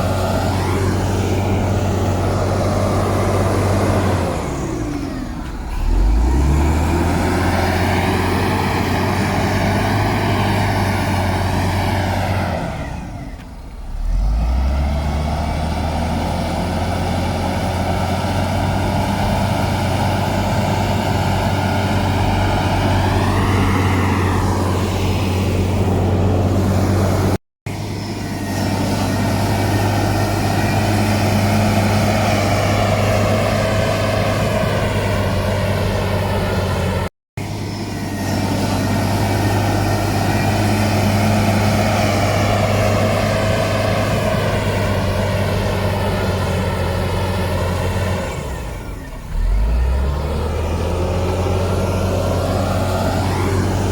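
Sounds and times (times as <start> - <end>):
heavy diesel engine under load: 0.0 - 53.9.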